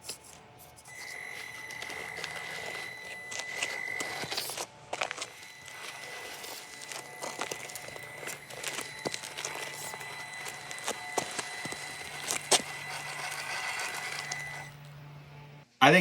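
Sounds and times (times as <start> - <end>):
toy car motor whine: 0.0 - 15.2
tyres crunching in sand: 0.9 - 14.8.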